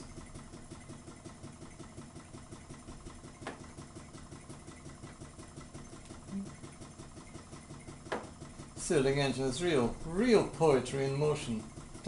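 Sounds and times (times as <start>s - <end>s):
small engine pumping rhythm: 0.0s - 12.0s.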